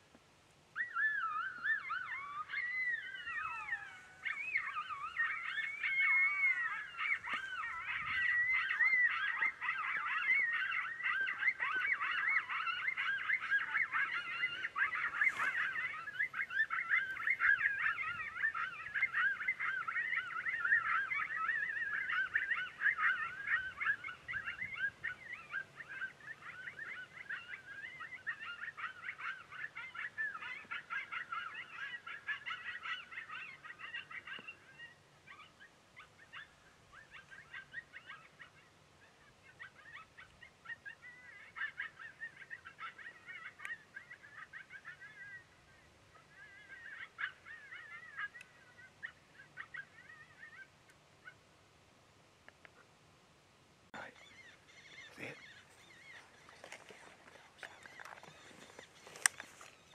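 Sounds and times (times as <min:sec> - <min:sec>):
coyotes yipping and howling: 0:00.7 - 0:51.5, 0:53.9 - 0:59.9.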